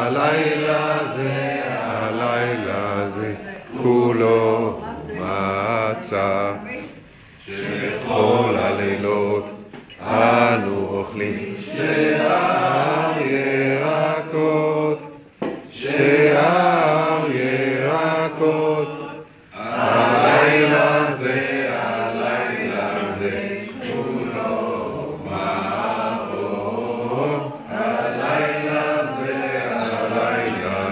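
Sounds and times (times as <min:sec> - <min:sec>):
voices singing chant-like tune: 0:00.0 - 0:30.9.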